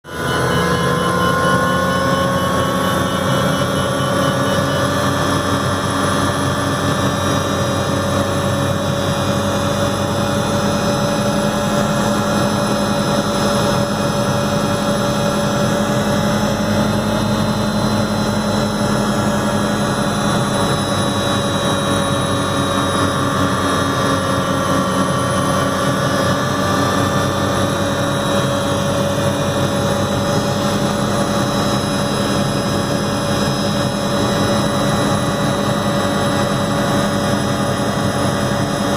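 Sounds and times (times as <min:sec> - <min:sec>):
helicopter engine and rotors: 0:00.0 - 0:38.9.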